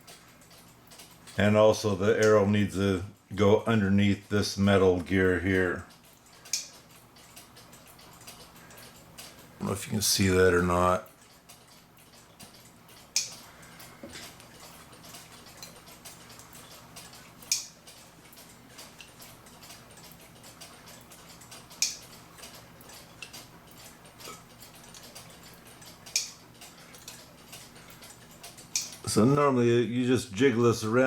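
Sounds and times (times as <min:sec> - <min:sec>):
clock parts clicking: 0:00.0 - 0:29.4.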